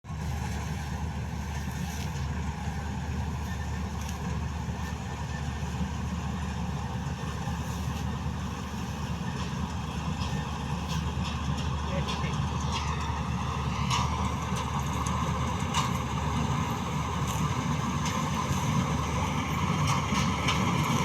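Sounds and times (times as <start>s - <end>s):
combine harvester engine drone: 0.1s - 21.0s.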